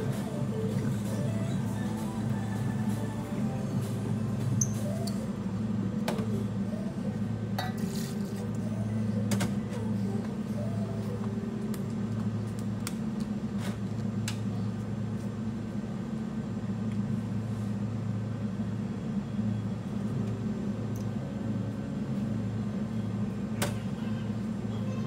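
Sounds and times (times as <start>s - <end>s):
equipment humming: 0.0s - 25.0s.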